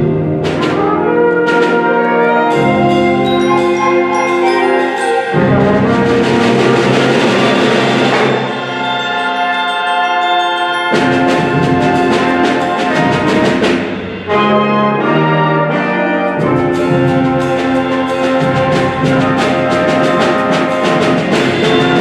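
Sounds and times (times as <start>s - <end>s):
concert band playing chords: 0.0s - 22.0s.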